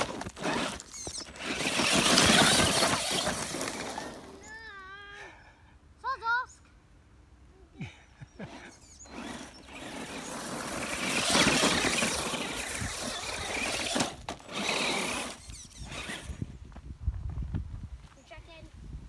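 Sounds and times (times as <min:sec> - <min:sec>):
rc truck motor and tyres on dirt: 0:00.0 - 0:05.2, 0:07.9 - 0:18.7.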